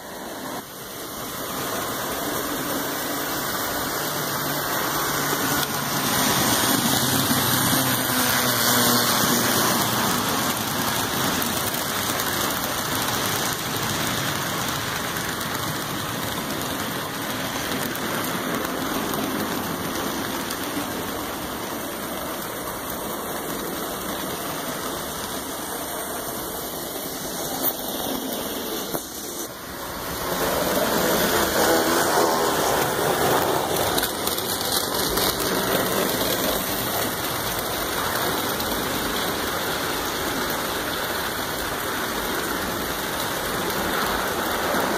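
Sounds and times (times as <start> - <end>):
model train running on track: 0.0 - 44.9.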